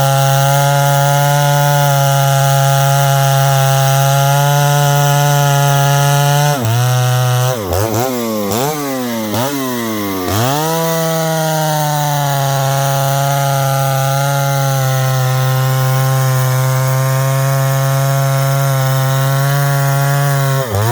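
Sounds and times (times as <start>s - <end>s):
chainsaw running at high revs: 0.0s - 20.9s.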